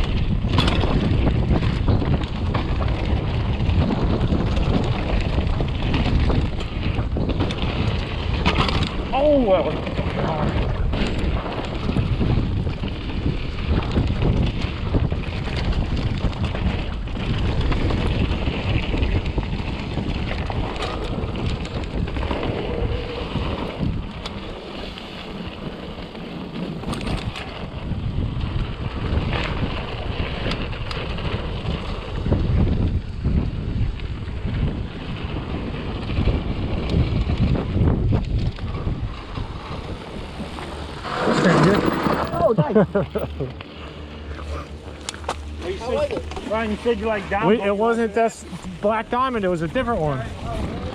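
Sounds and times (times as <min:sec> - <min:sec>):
bike knocking and rattling: 0:00.0 - 0:50.9
bike tyre noise on dirt: 0:00.0 - 0:50.9
wind on microphone: 0:00.0 - 0:50.9.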